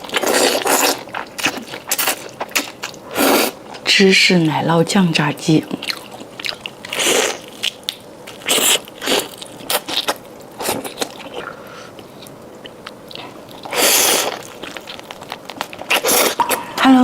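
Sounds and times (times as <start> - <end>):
crunchy chewing of fried chicken: 0.0 - 3.9, 5.6 - 16.8.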